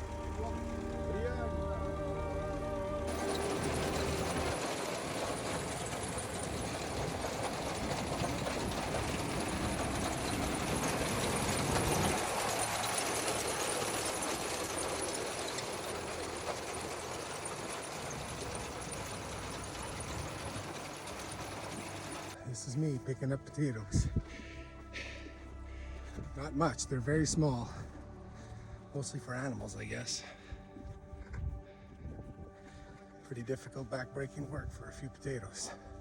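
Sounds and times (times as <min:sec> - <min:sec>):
tractor engine rumbling: 0:00.0 - 0:32.5.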